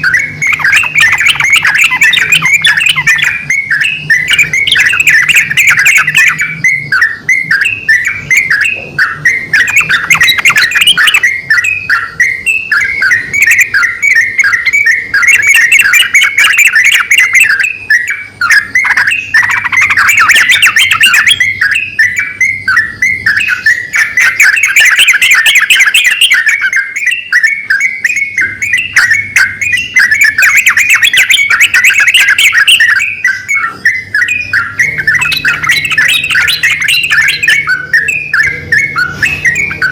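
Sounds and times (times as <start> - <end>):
bulbuls calling: 0.0 - 39.9.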